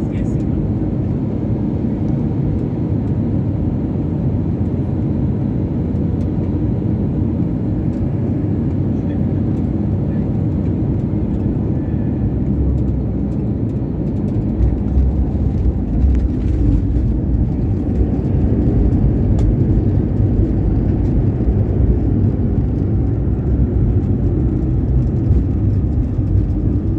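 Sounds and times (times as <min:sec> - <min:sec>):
jet airliner rumble: 0:00.0 - 0:26.9.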